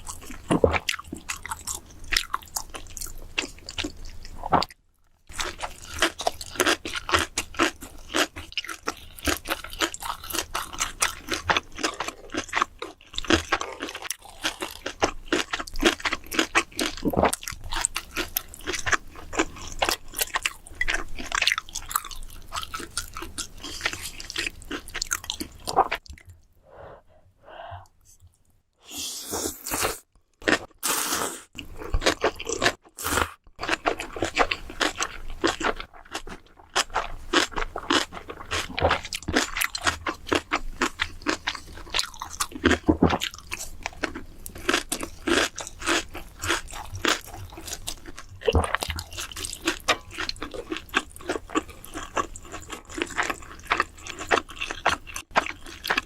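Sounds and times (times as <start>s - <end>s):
person chewing crunchy food: 0.0s - 26.6s, 27.8s - 56.0s.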